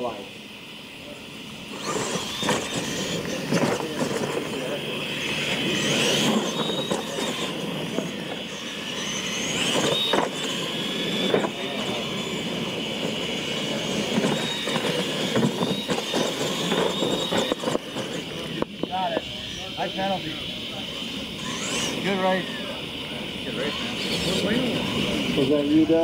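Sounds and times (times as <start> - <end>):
rc truck motor whine: 0.0 - 26.0.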